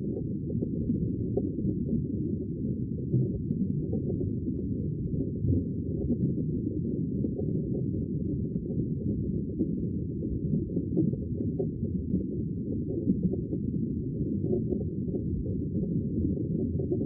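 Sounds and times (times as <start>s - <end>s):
muffled low rumble of sea water: 0.0s - 17.0s.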